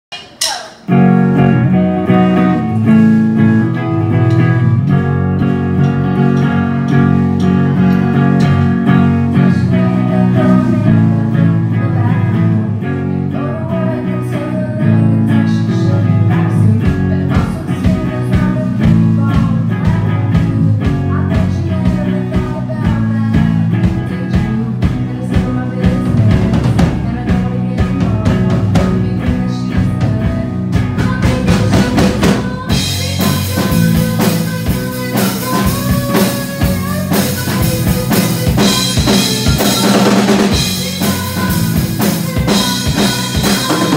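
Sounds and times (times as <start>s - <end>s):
drums: 0.0s - 43.9s
person singing: 0.1s - 43.9s
electric guitar: 0.8s - 43.9s.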